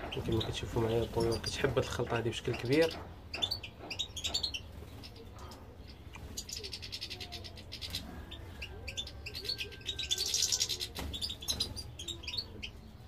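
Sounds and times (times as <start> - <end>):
finches chirping and twittering: 0.0 - 13.0.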